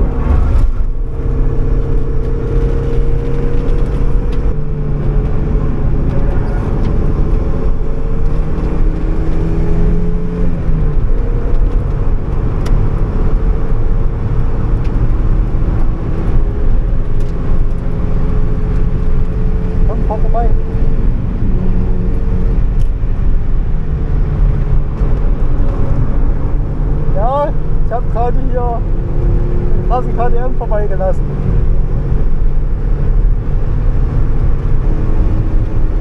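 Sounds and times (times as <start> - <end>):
car engine revving: 0.0 - 36.0
road and wind noise: 0.0 - 36.0.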